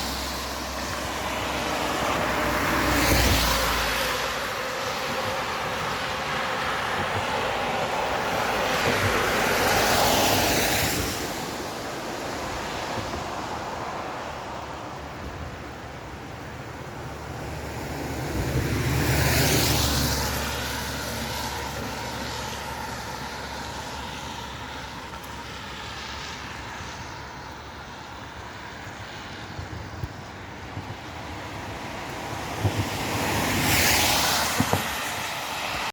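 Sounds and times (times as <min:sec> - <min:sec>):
vehicles passing: 0:00.0 - 0:35.9.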